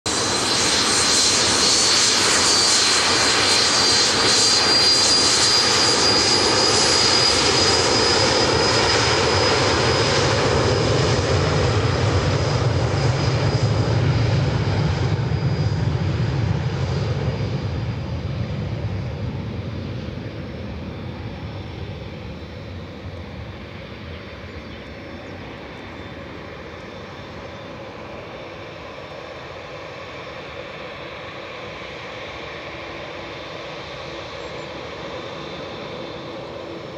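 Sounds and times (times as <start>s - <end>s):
jet engine roar with high whine: 0.0s - 36.9s.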